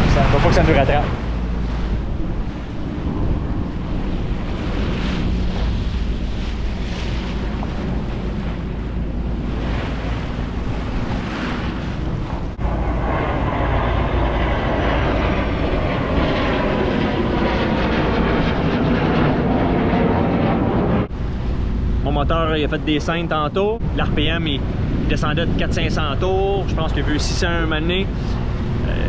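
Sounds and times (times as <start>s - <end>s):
sea noise: 0.0s - 29.0s
small airplane engine drone: 0.0s - 29.0s
wind: 0.0s - 29.0s.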